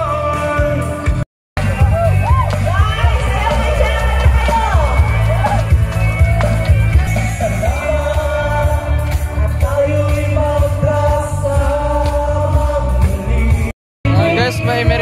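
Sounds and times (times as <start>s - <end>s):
dance music over sound system: 0.2s - 15.0s.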